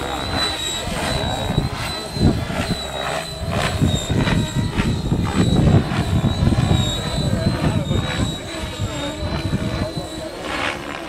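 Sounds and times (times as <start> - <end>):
model helicopter whine and rotor noise: 0.0 - 11.0.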